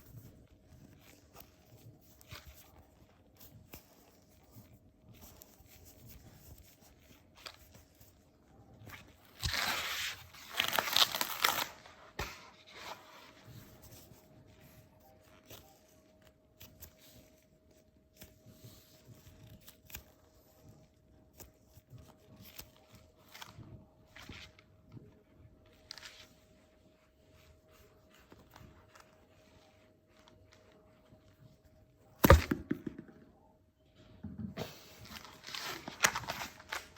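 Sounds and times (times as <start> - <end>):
scratchy crinkling: 0.0 - 33.0, 34.7 - 36.9.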